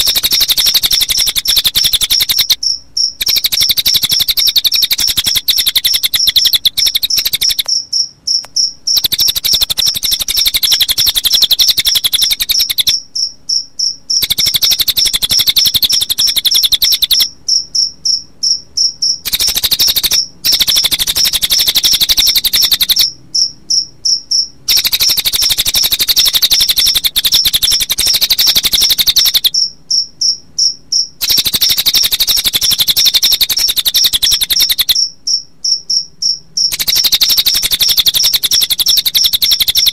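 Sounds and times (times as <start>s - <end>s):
bird trilling: 0.0s - 13.0s, 14.1s - 17.3s, 19.2s - 23.1s, 24.7s - 29.6s, 31.2s - 35.1s, 36.7s - 39.9s
crickets chirping: 0.0s - 39.9s.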